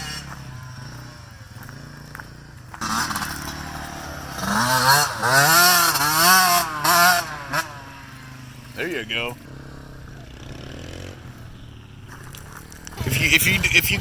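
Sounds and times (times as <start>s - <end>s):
small quad engine revving: 0.0s - 14.0s.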